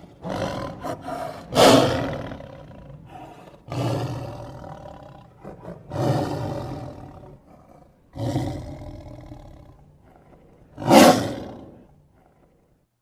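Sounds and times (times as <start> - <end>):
tiger roaring: 0.0 - 12.8.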